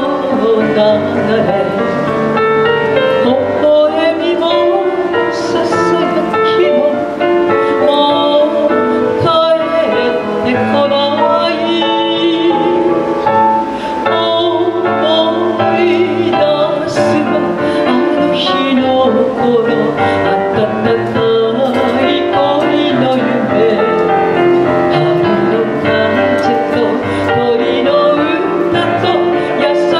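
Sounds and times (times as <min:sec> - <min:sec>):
instrumental backing with bass: 0:00.0 - 0:29.9
woman singing into microphone: 0:00.0 - 0:29.9.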